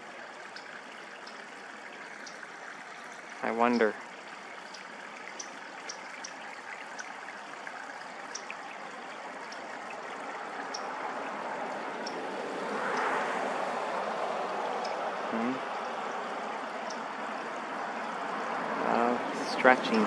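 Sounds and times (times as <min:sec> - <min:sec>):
rushing outdoor background noise: 0:00.0 - 0:20.0.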